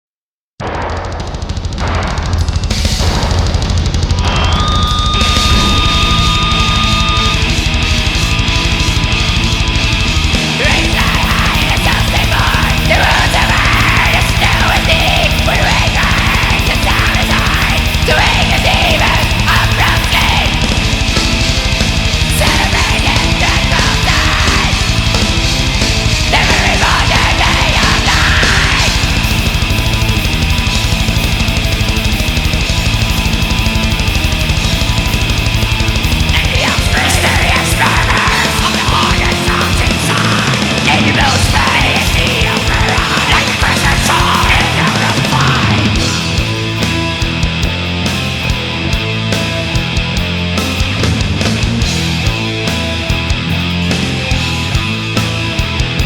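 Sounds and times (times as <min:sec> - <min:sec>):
distorted metal guitars: 0:00.6 - 0:56.0
fast drumming: 0:00.6 - 0:56.0
harsh yelled vocals: 0:01.7 - 0:48.0.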